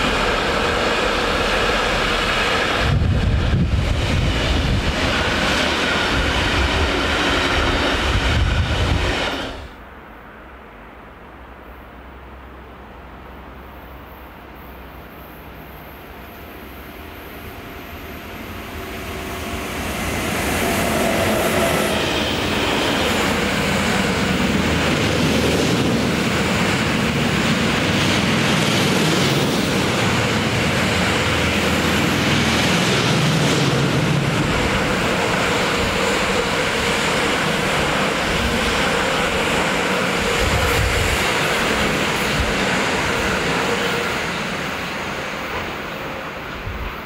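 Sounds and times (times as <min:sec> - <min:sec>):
electric train passing: 0:00.0 - 0:47.0.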